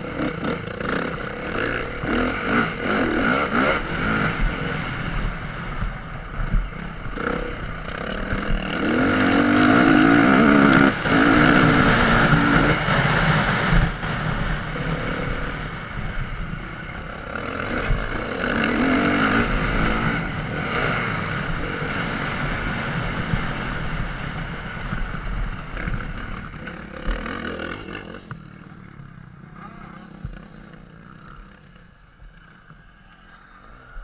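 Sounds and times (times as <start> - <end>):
dirt bike engine revving: 0.0 - 32.1.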